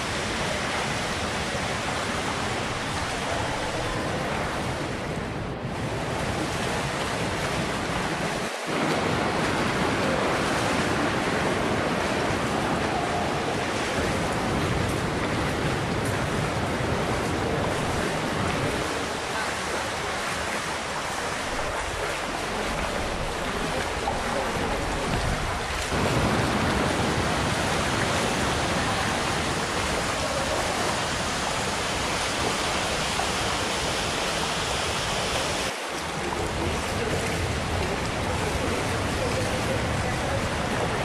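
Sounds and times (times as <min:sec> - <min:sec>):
water rushing and falling: 0:00.0 - 0:41.0
wind on microphone: 0:00.0 - 0:41.0.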